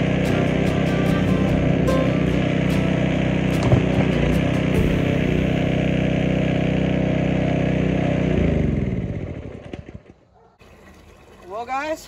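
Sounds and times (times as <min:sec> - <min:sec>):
pressure washer engine running: 0:00.0 - 0:12.0.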